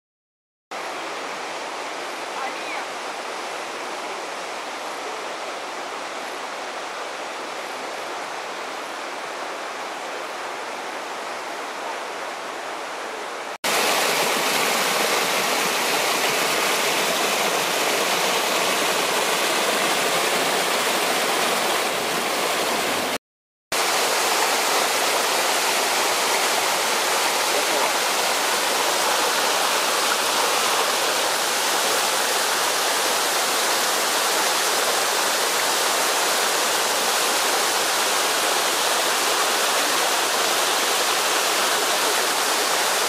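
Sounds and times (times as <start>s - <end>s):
water rushing over rocks: 0.8s - 43.0s.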